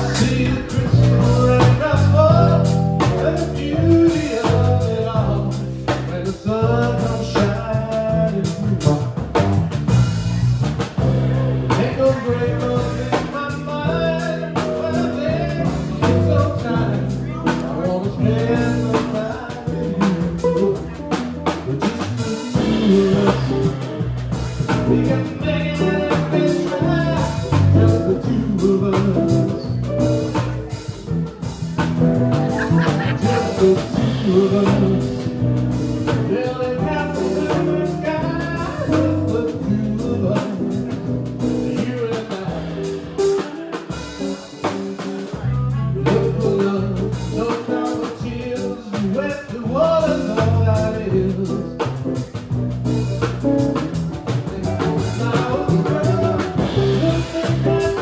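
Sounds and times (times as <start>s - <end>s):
bass: 0.0s - 58.0s
drum kit played with sticks: 0.0s - 58.0s
electric guitar: 0.0s - 58.0s
keyboard: 0.0s - 58.0s.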